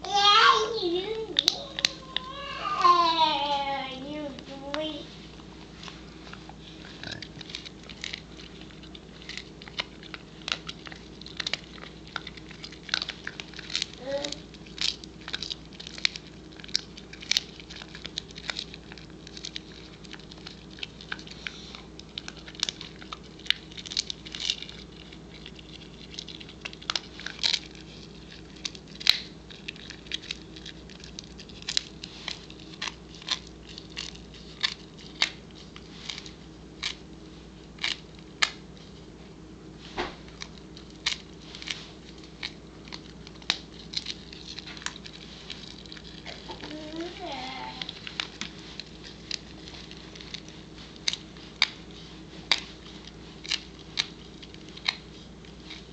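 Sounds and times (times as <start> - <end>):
dog gnawing a chew: 1.3 - 2.4, 5.6 - 39.1, 40.2 - 55.9.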